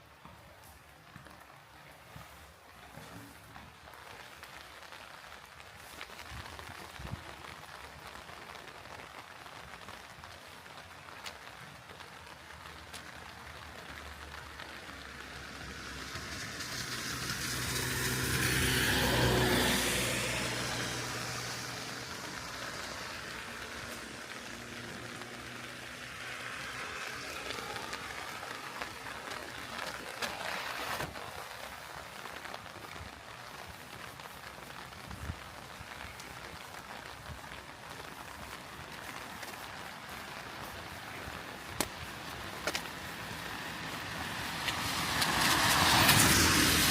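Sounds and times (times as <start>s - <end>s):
car passing on wet road: 0.0s - 46.9s
rain patter: 0.0s - 46.9s.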